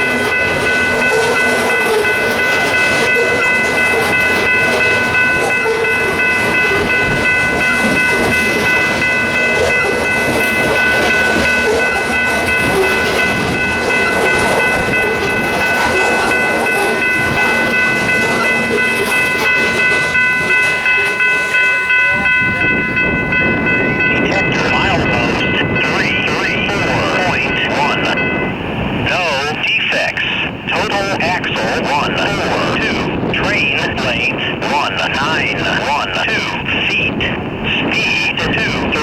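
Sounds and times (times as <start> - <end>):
train rushing past: 0.0 - 39.0.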